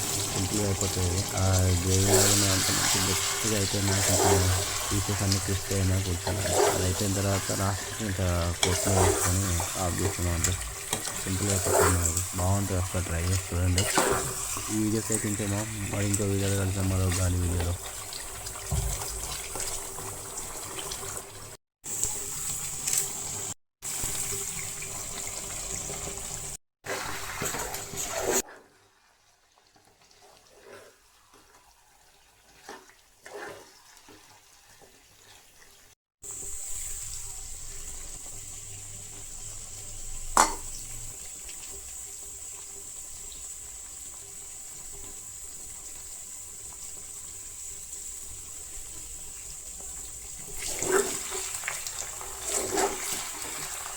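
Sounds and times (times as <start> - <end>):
chicken sizzling in oil: 0.0 - 53.9.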